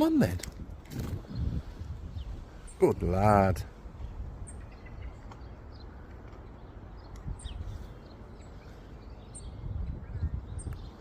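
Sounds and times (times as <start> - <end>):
low wind rumble: 0.0 - 11.0
small birds chirping: 0.0 - 11.0.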